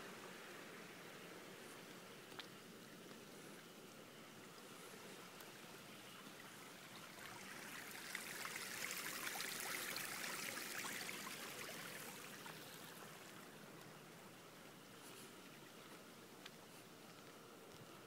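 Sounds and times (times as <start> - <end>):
water trickling and splashing: 0.1 - 17.5.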